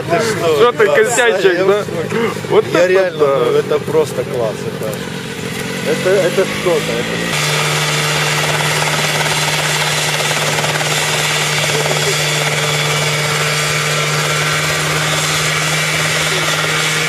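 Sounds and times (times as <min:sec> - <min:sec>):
helicopter engine and rotor drone: 0:00.2 - 0:17.0.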